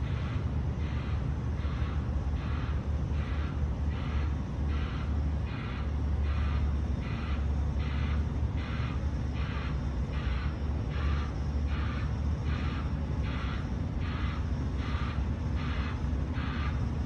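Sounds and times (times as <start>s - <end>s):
diesel engine rumble: 0.0s - 17.0s
truck reversing alarm beeps: 0.0s - 17.0s.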